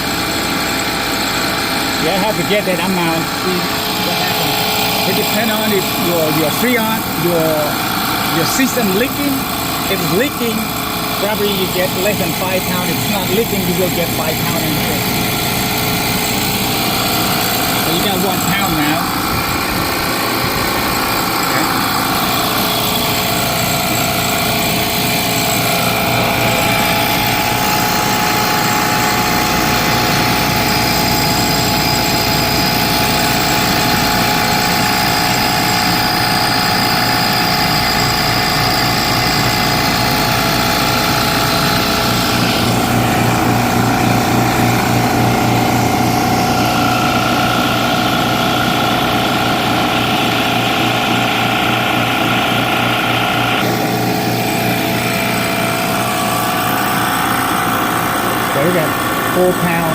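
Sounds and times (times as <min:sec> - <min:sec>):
recovery machine humming: 0:00.0 - 0:59.9.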